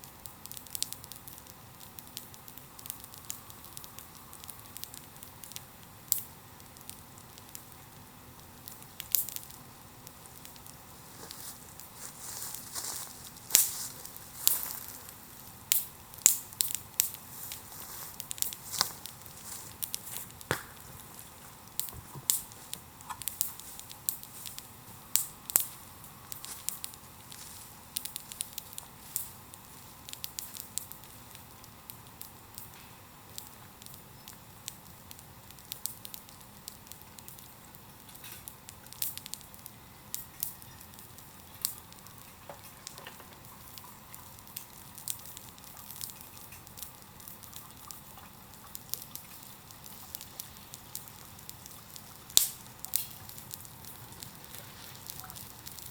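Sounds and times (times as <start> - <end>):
bonfire popping and snapping: 0.0 - 55.9
faint fire sizzle: 0.0 - 55.9.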